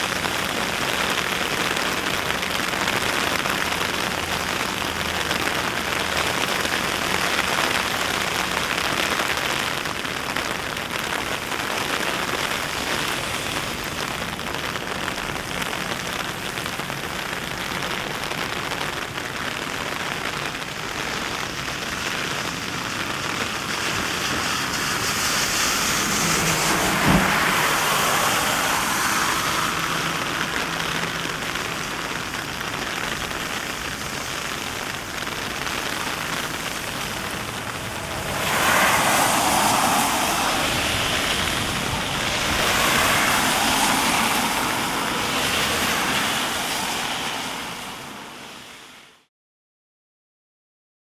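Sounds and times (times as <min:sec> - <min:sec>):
heavy rain falling: 0:00.0 - 0:49.2.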